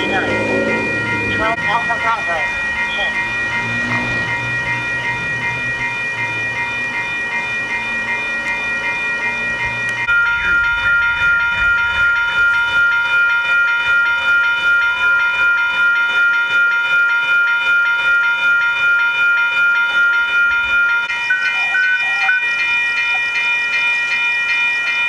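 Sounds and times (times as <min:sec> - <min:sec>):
railroad crossing bell ringing: 0:00.0 - 0:25.0.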